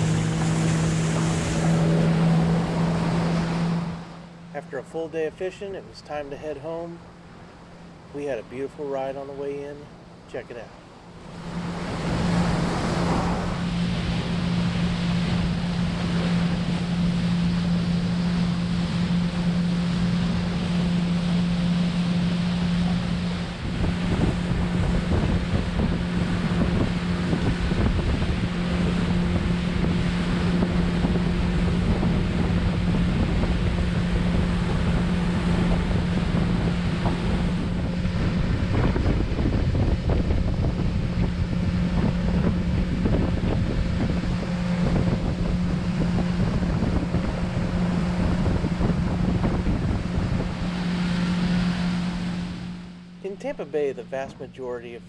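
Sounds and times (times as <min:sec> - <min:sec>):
wind buffeting microphone: 0:00.0 - 0:04.8, 0:09.9 - 0:53.1
outboard motor droning: 0:00.0 - 0:55.0
water splashing along hull: 0:00.0 - 0:55.0.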